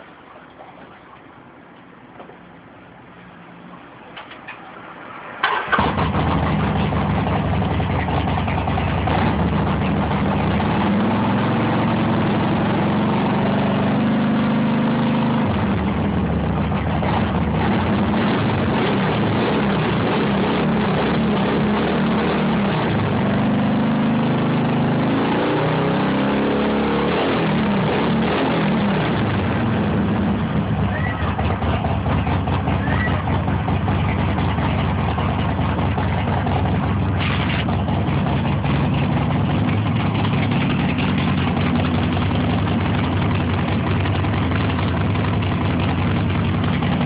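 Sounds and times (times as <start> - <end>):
motorcycle engine starting and revving: 5.4 - 47.0.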